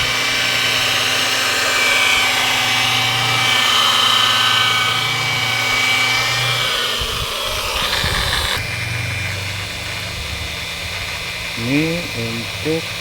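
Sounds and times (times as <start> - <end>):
polishing machine hum and whine: 0.0 - 13.0.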